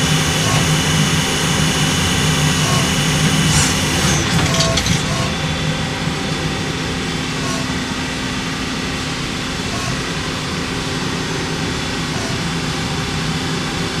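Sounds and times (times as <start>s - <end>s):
lathe mechanical hum: 0.0s - 14.0s.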